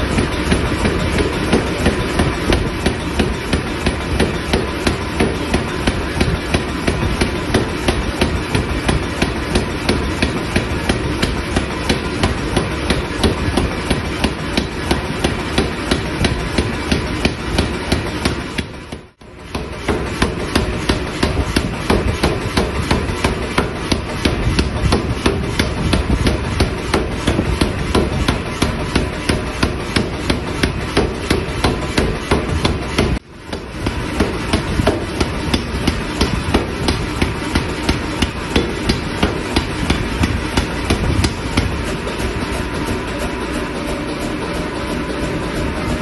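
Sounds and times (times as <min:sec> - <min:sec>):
power hammer pounding steel: 0:00.0 - 0:46.0.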